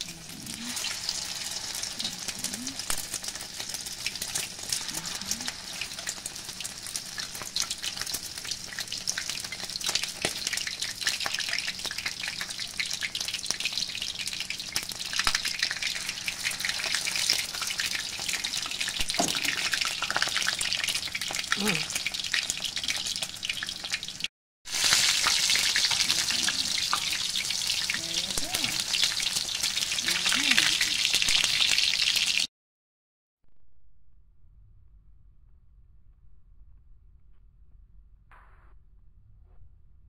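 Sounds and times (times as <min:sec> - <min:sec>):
food frying in hot oil: 0:00.0 - 0:32.5.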